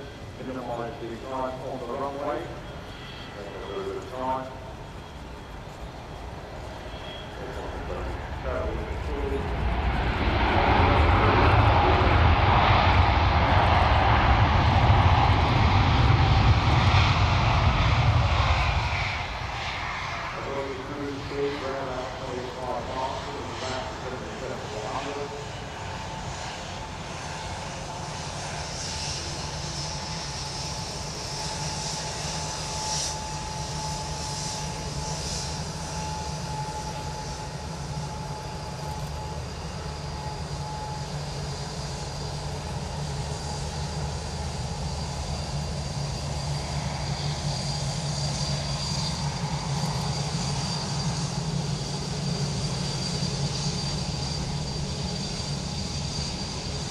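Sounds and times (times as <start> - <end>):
jet engines running: 0.0 - 56.9.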